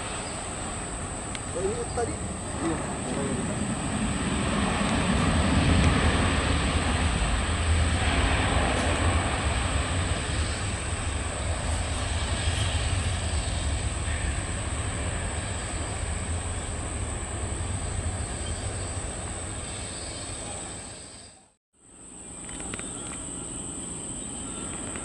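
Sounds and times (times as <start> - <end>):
high whine: 0.0 - 21.0
jet engines rumbling: 0.0 - 25.0.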